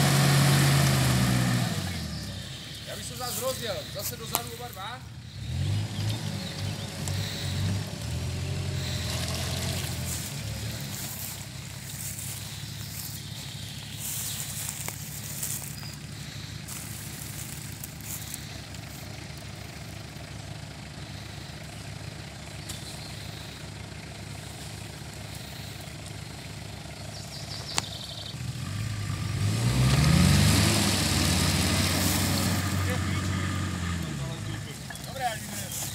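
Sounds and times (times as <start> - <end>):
vehicle engine idling and revving: 0.0 - 35.9.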